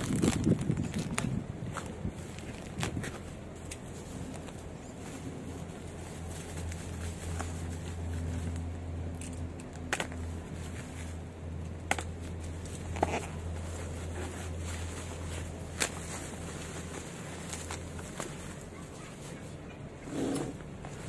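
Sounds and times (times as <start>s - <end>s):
bubble wrap crinkling: 0.0s - 9.1s, 9.7s - 19.6s.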